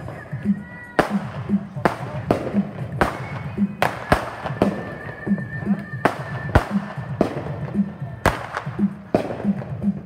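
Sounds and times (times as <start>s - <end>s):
firework bangs: 0.0s - 10.0s
music with a steady beat: 0.0s - 10.0s.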